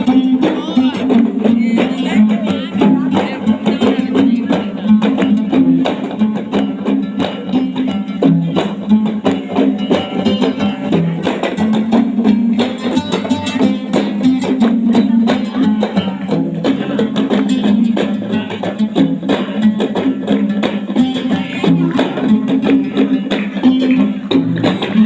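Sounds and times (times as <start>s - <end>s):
plucked lute playing: 0.0s - 25.0s.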